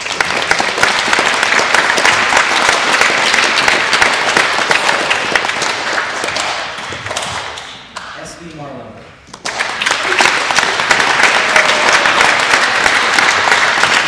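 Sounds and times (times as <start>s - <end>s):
audience applauding: 0.0s - 8.2s, 9.3s - 14.0s.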